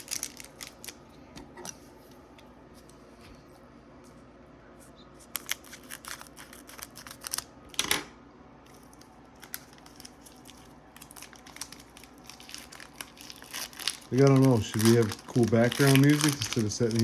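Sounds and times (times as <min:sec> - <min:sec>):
cards and wrappers rustling: 0:00.0 - 0:03.2, 0:05.2 - 0:07.5, 0:08.7 - 0:17.0.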